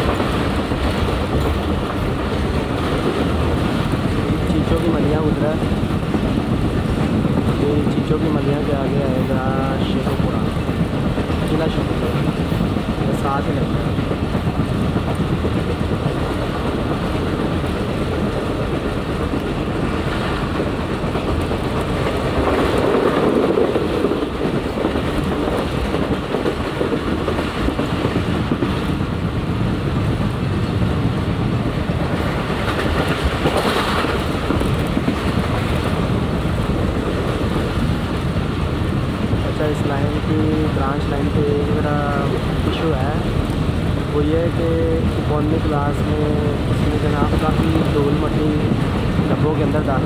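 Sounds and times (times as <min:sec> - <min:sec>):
train rumble and rail noise: 0:00.0 - 0:50.0.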